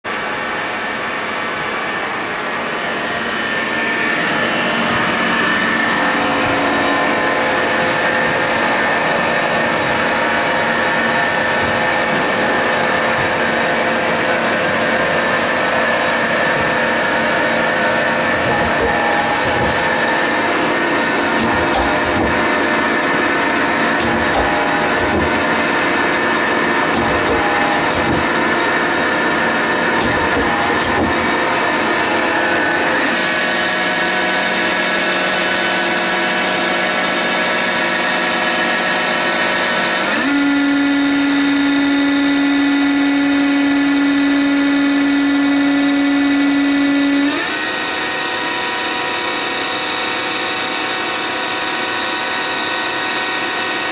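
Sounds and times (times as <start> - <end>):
lathe motor whine: 0.1 - 53.9.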